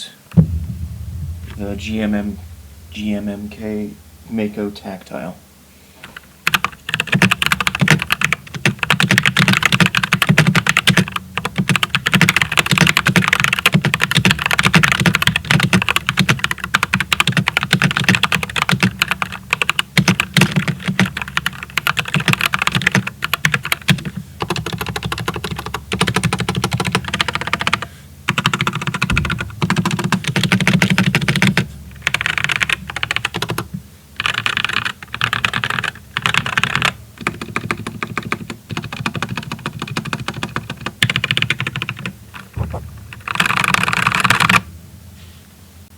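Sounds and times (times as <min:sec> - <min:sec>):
mechanical keyboard typing: 0:06.5 - 0:42.1, 0:43.2 - 0:44.6.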